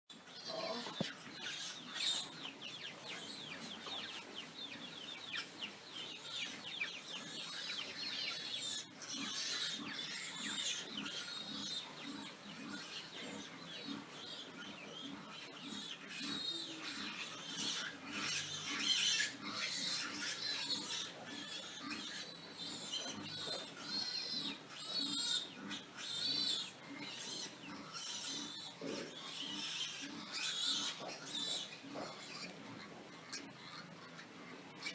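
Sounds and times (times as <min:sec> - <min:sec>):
pigs squealing: 0:00.2 - 0:02.4, 0:05.4 - 0:34.9
pigs grunting: 0:00.2 - 0:34.9.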